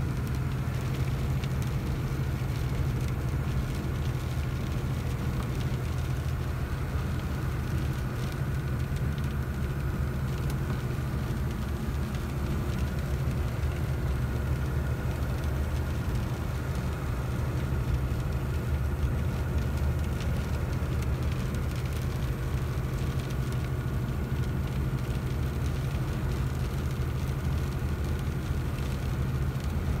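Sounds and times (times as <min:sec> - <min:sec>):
truck engine low drone: 0:00.0 - 0:30.0
tyre and road noise: 0:00.0 - 0:30.0.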